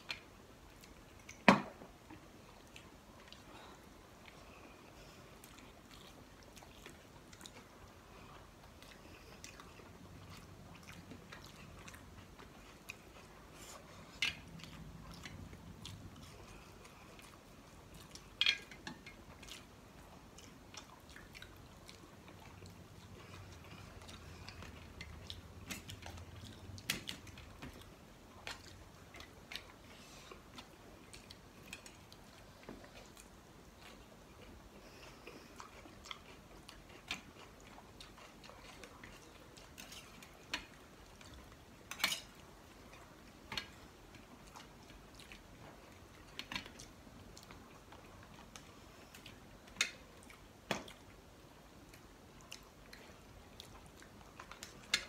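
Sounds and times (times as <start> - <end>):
people chewing food: 0.0 - 55.0.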